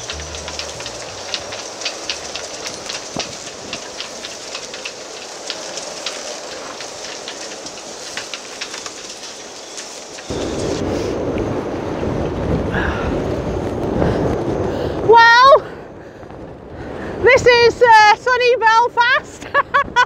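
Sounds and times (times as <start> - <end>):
wind buffeting microphone: 0.0 - 8.8, 10.2 - 20.0
raindrops ticking on microphone: 0.0 - 18.5
steady rain: 0.0 - 20.0.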